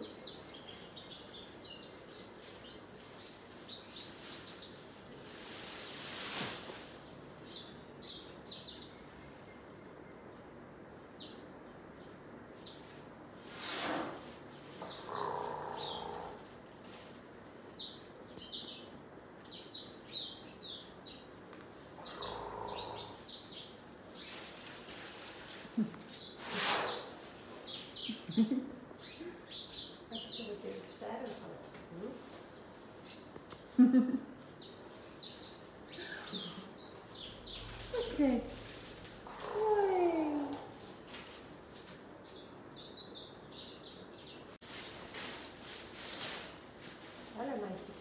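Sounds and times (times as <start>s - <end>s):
small birds chirping: 0.0s - 13.0s, 14.4s - 17.0s, 17.6s - 45.4s.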